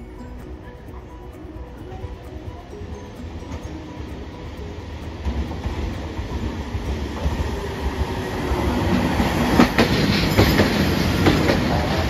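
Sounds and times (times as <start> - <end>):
streetcar rumble: 0.0 - 12.0
wheels clacking over rail joints: 1.8 - 12.0.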